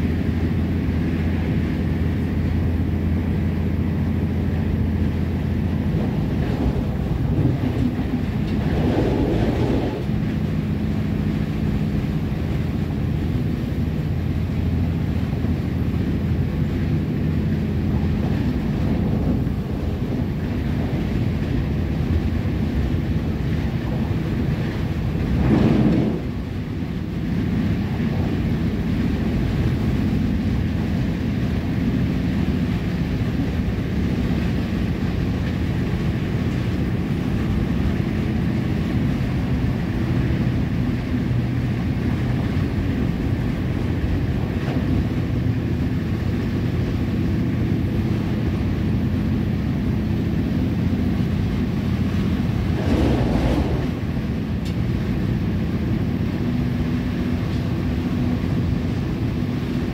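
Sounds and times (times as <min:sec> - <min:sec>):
train rumble with droning hum: 0:00.0 - 0:59.9.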